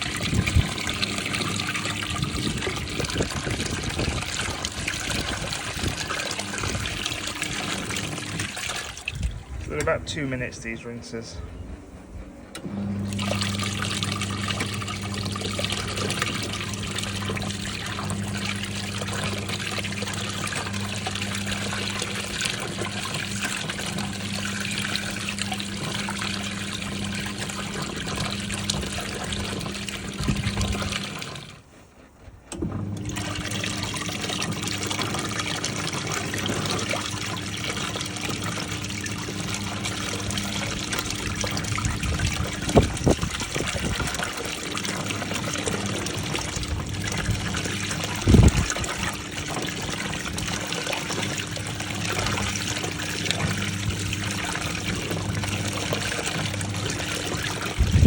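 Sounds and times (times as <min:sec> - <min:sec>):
water splashing in washing machine: 0:00.0 - 0:10.2, 0:12.5 - 0:58.0
motor hum: 0:00.0 - 0:58.0.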